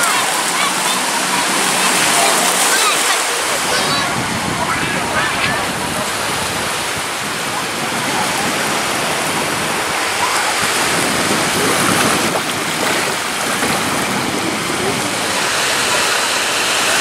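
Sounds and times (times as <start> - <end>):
small waves washing onto shore: 0.0 - 17.0.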